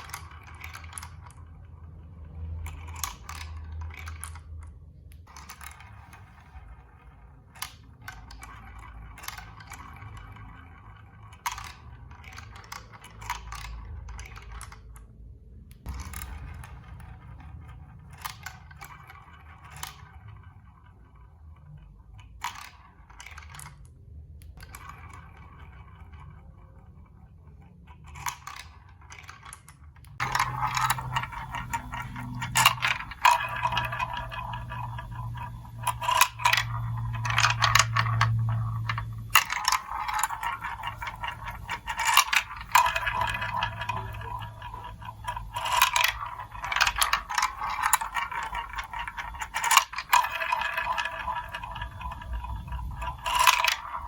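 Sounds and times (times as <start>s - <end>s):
marbles rolling and clattering: 0.0s - 54.0s.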